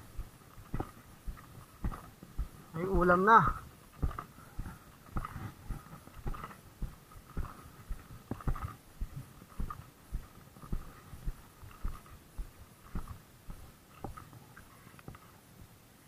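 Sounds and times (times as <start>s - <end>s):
footsteps on concrete: 0.0s - 14.2s.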